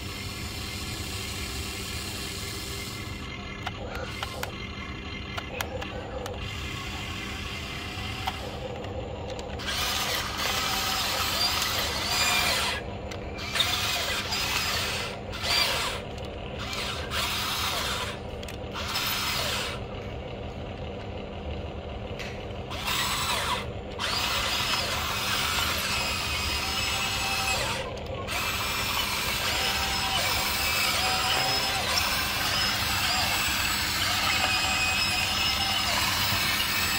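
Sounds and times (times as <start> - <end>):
electric motors whining: 0.0 - 36.9.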